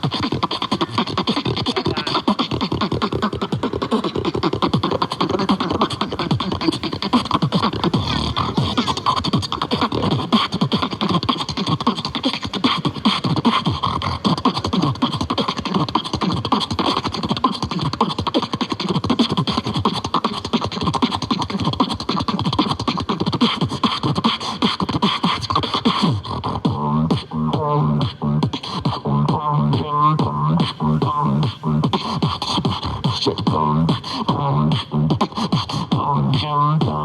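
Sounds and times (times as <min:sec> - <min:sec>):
person beatboxing: 0:00.0 - 0:37.0.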